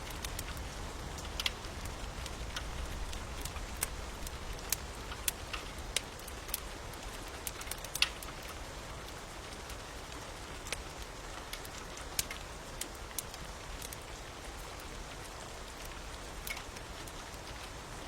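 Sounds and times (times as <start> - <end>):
fire crackling and popping: 0.0 - 18.0
steady rain: 0.0 - 18.0.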